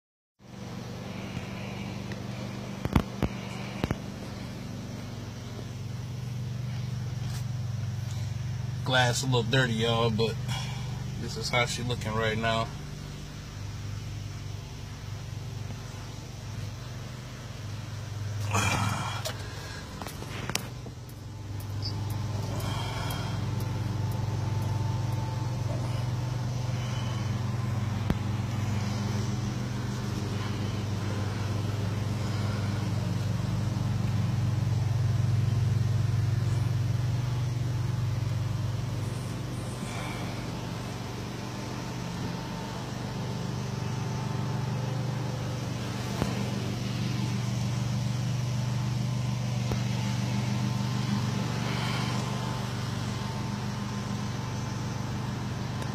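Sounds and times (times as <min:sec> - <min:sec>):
truck engine idling: 0:00.4 - 0:55.9.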